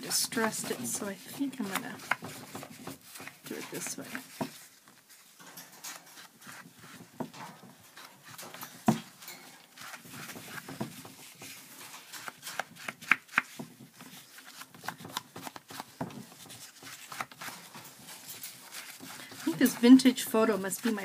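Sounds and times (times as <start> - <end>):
paper handling: 0.0 - 21.0.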